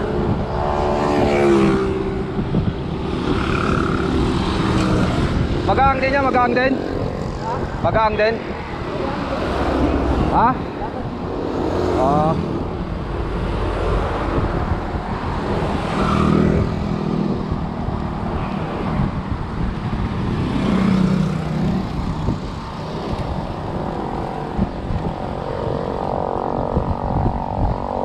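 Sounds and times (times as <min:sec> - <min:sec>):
traffic passing: 0:00.0 - 0:28.0
wind on microphone: 0:00.0 - 0:28.0.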